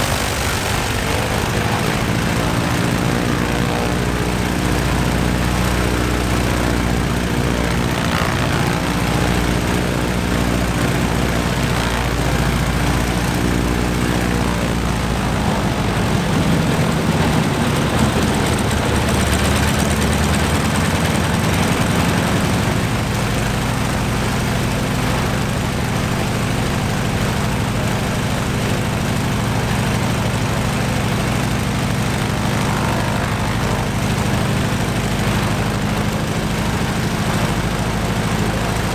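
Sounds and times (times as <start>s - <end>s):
radial aircraft engine running: 0.0s - 38.9s.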